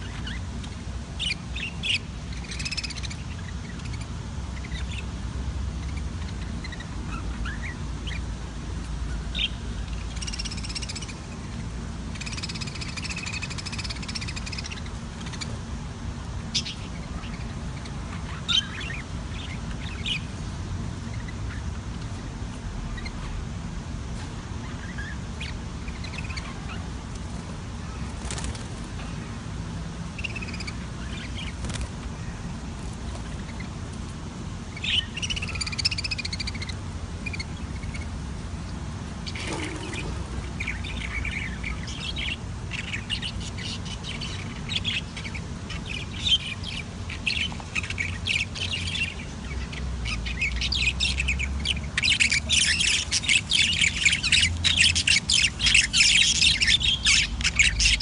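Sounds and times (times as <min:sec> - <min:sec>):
budgerigars chirping: 0:00.0 - 0:08.4, 0:09.1 - 0:15.6, 0:16.5 - 0:20.4, 0:21.0 - 0:21.8, 0:22.9 - 0:23.4, 0:24.6 - 0:26.9, 0:30.1 - 0:32.5, 0:33.1 - 0:33.8, 0:34.7 - 0:38.3, 0:39.2 - 0:58.0
steady low rumble: 0:00.0 - 0:58.0.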